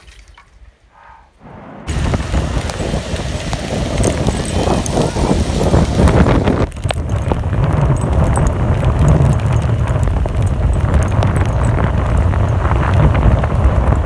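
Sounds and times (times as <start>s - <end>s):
storm wind buffeting microphone: 1.1s - 14.0s.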